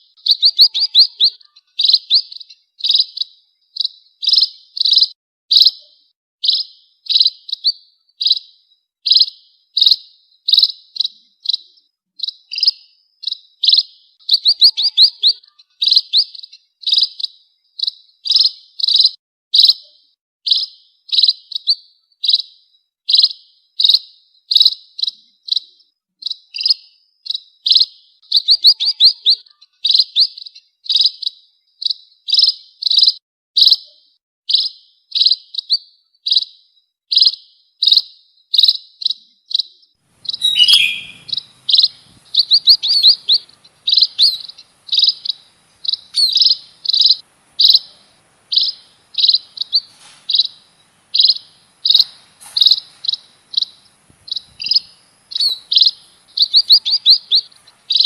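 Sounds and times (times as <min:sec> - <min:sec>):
finch chirping: 0:00.0 - 0:33.9, 0:34.5 - 0:58.0.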